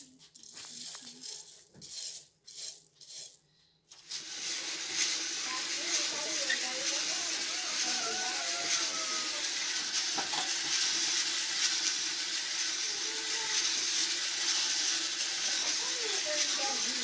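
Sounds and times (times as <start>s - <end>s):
coffee beans rattling in drum: 0.0s - 17.0s.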